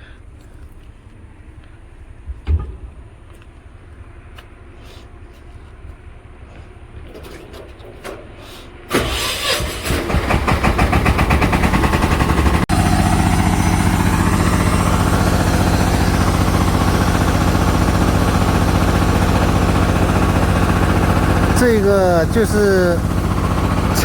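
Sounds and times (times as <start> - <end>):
engine starting and running: 2.1 - 24.0.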